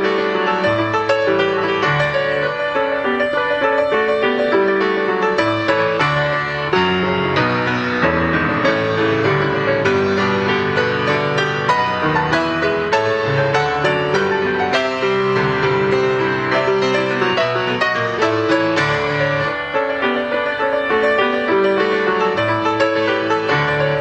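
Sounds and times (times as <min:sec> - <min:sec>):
grand piano playing: 0:00.0 - 0:24.0.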